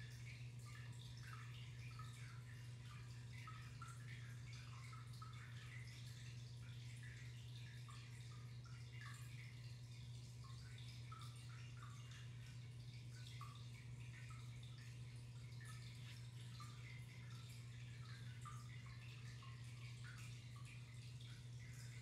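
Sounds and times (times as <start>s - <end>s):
aquarium filter hum: 0.0s - 22.0s
water trickling and dripping: 0.0s - 22.0s.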